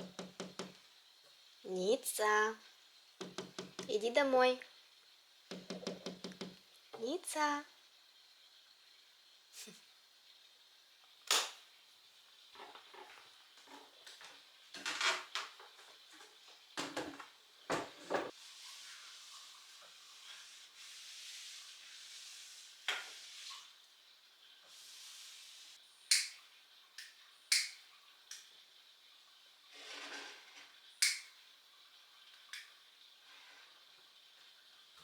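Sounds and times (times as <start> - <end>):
soft steady hiss: 0.0 - 35.0.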